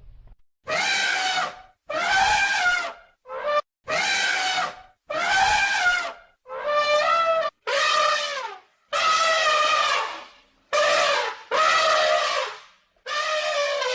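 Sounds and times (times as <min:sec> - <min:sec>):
elephant trumpeting: 0:00.7 - 0:13.9.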